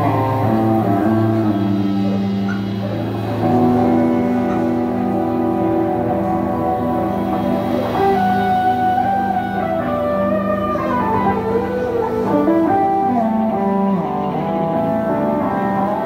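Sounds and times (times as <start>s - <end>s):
acoustic guitar: 0.0s - 16.0s
bass guitar: 0.0s - 16.0s
sliding guitar melody: 0.0s - 16.0s.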